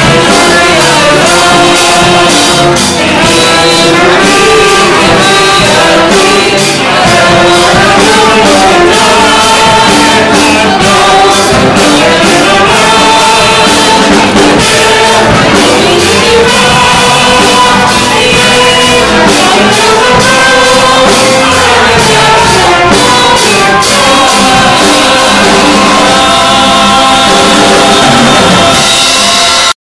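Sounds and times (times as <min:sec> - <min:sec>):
instrumental accompaniment: 0:00.0 - 0:29.8
several voices singing: 0:00.0 - 0:29.8.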